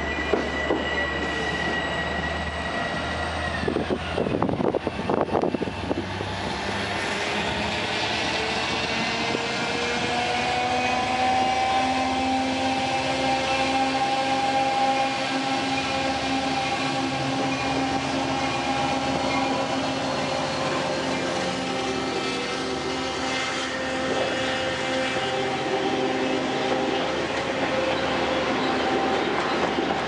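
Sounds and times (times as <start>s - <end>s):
diesel locomotive engine drone: 0.0s - 30.0s
train rumble: 0.0s - 30.0s.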